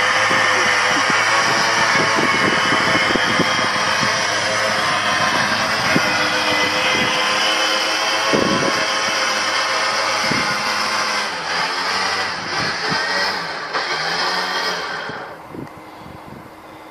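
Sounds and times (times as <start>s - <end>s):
car engine running under load: 0.0s - 16.9s.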